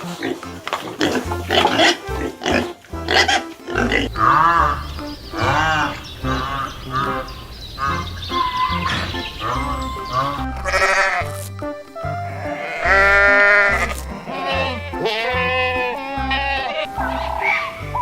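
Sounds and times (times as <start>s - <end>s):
farm animal bleating: 1.0s - 11.6s, 12.2s - 17.8s.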